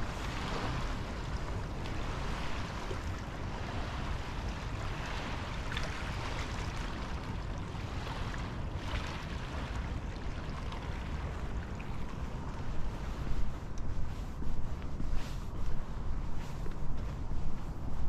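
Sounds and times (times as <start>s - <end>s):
waves lapping on pebbles: 0.0s - 18.0s
wind rumble on microphone: 0.0s - 18.0s.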